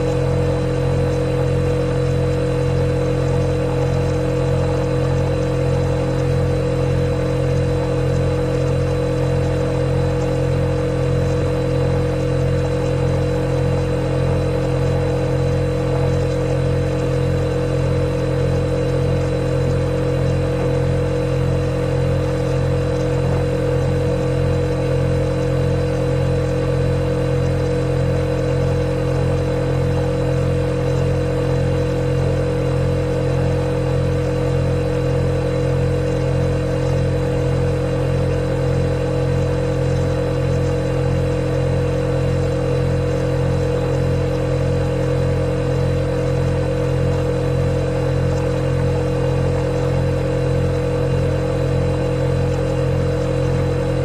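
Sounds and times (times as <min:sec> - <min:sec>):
refrigerator compressor humming: 0:00.0 - 0:54.0.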